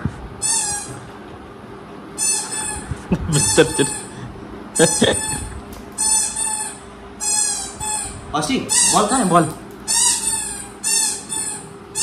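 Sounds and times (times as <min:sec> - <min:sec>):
dog whining: 0:00.4 - 0:01.1, 0:02.2 - 0:04.1, 0:04.8 - 0:12.0.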